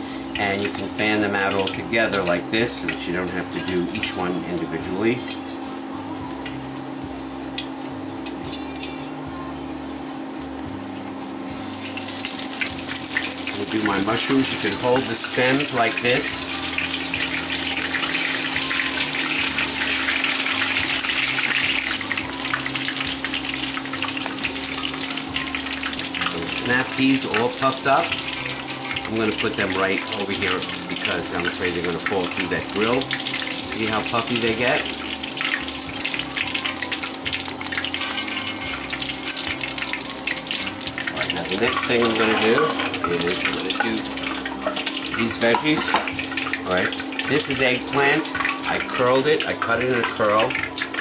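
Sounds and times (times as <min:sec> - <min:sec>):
food deep-frying in oil: 0:00.0 - 0:51.0.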